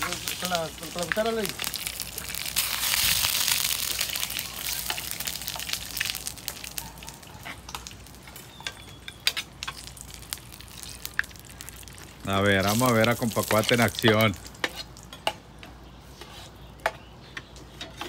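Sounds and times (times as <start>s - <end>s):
food sizzling in lard: 0.0s - 15.0s
sharp pops of frying fat: 0.0s - 15.7s.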